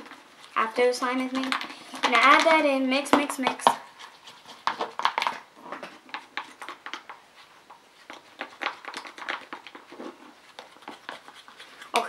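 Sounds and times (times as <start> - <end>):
stick stirring glue in plastic bowl: 0.0 - 12.0.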